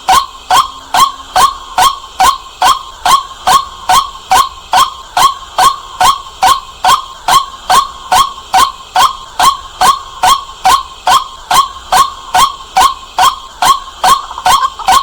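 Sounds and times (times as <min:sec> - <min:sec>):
waterhen calling sharp notes: 0:00.0 - 0:15.0.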